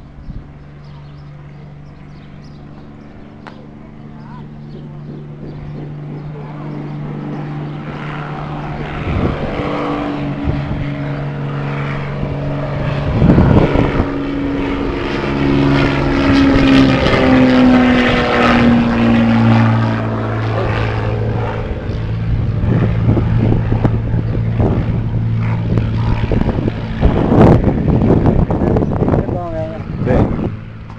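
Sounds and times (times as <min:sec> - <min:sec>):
propeller airplane engine: 0:00.0 - 0:30.9.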